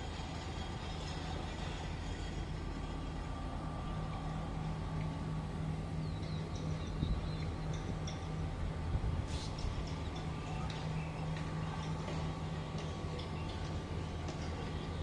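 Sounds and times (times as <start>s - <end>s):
distant traffic rumble: 0.0s - 15.0s
low hum: 0.0s - 15.0s.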